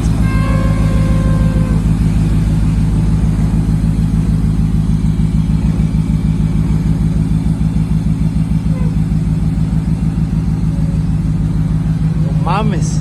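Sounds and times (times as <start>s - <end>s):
steady tone: 0.0s - 13.0s
truck engine rumbling: 0.0s - 13.0s.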